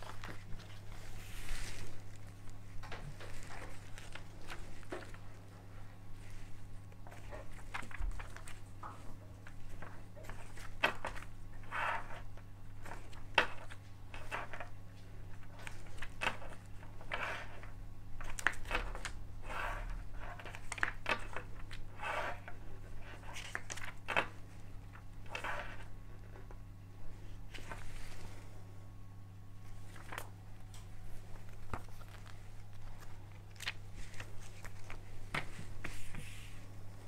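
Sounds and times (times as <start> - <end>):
paper pages rustling: 0.0 - 14.7, 15.3 - 26.4, 27.2 - 28.5, 29.7 - 37.0
low steady hum: 0.0 - 37.0.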